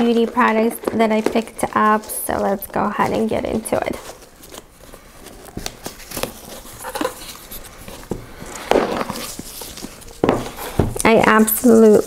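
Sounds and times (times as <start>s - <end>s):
cardboard box handled and opened: 0.0s - 12.0s.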